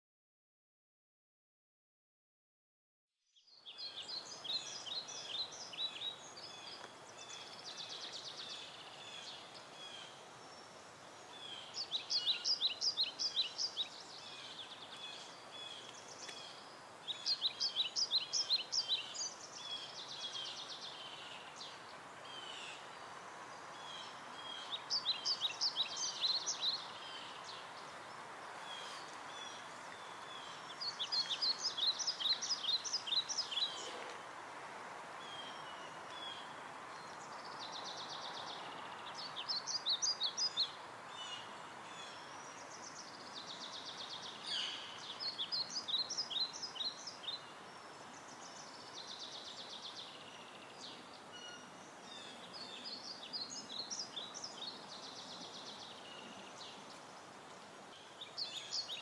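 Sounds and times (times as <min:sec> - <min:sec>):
songbird chirping: 0:03.2 - 0:59.0
steady outdoor hiss: 0:03.4 - 0:59.0.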